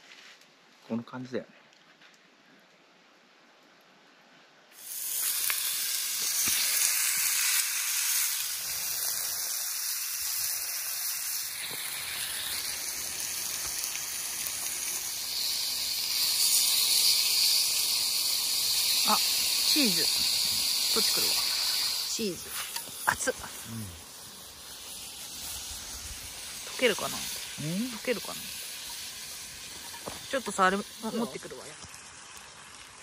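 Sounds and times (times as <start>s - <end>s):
meat sizzling on grill: 4.7s - 33.0s.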